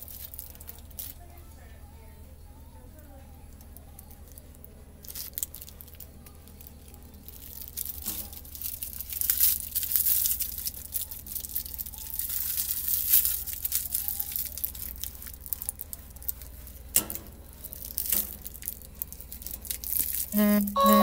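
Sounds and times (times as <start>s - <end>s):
foil toy crinkling: 0.0s - 1.8s, 3.5s - 20.4s.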